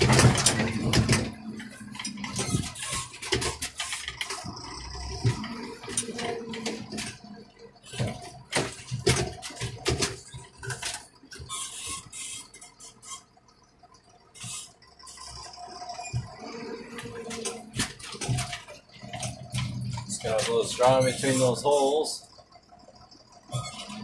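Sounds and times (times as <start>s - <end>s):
diesel engine hum: 0.0s - 24.0s
knocks and rattles in tractor cab: 0.0s - 24.0s.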